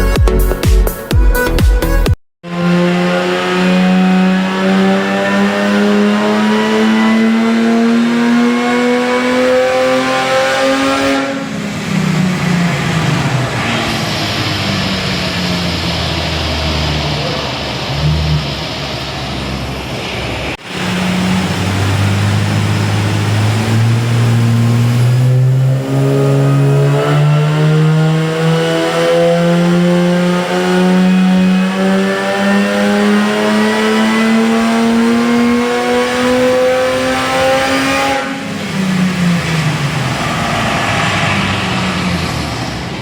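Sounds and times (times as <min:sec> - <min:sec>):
car engine accelerating hard: 0:02.4 - 0:43.0.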